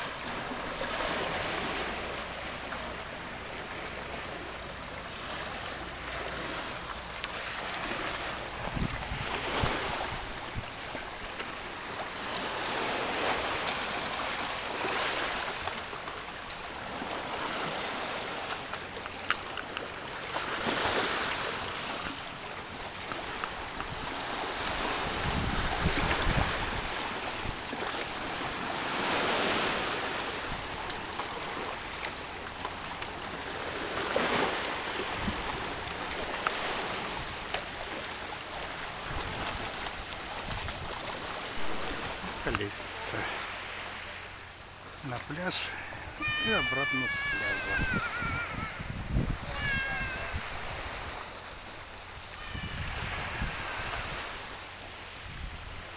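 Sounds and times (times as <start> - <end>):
small waves washing over shingle: 0.0 - 55.4.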